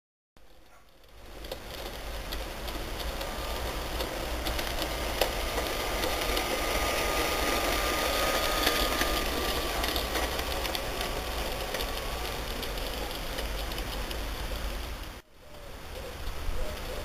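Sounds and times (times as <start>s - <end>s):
wheels clicking on track: 0.4s - 15.2s, 15.9s - 17.0s
model train motor whine: 0.5s - 15.2s.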